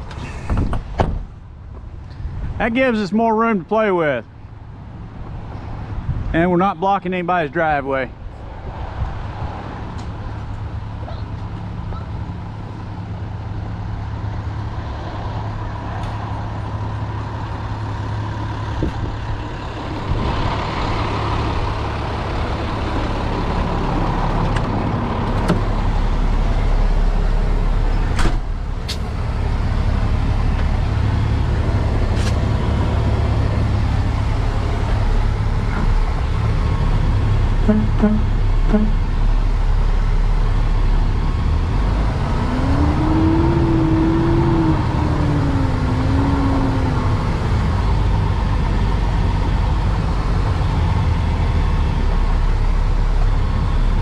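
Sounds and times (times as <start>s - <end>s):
diesel engine idling: 10.2s - 54.0s.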